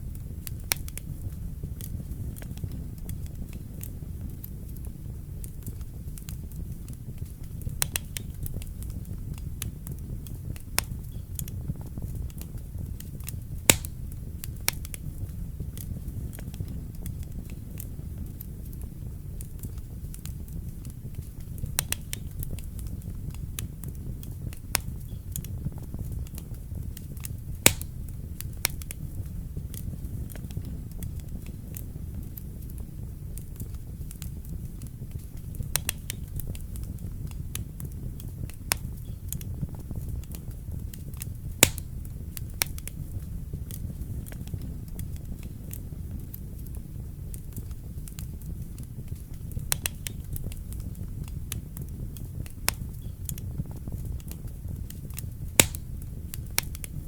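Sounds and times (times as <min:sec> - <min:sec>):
fire pops and snaps: 0:00.0 - 0:57.0
wood fire crackling: 0:00.0 - 0:57.0.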